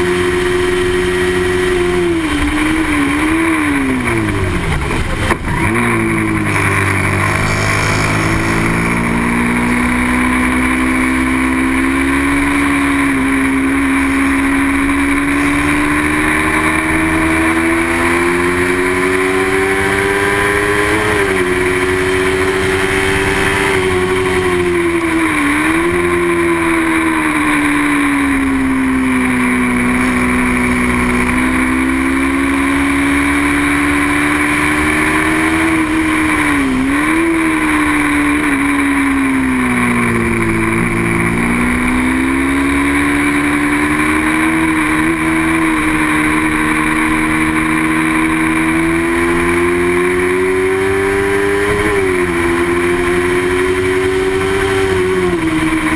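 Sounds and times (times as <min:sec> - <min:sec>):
racing motorcycle engine revving: 0:00.0 - 0:55.9.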